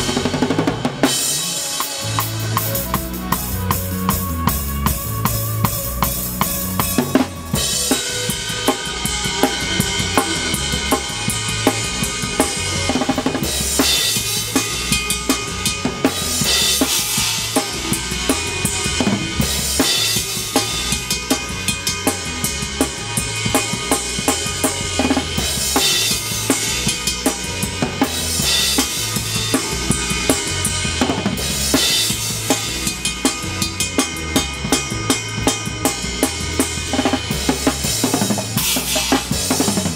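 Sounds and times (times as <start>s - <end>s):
bass drum and snare groove: 0.0s - 39.9s.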